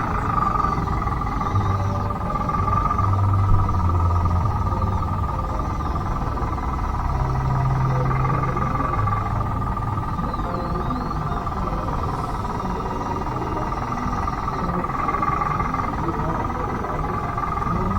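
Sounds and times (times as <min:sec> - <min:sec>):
low hum: 0:00.0 - 0:17.9
toy electric motor whining: 0:00.0 - 0:17.9.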